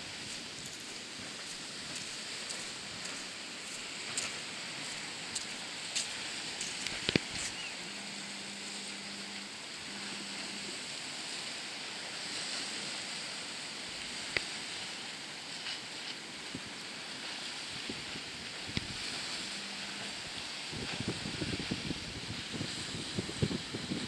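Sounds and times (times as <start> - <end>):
small waves breaking on rocks: 0.0 - 7.7, 10.7 - 24.0.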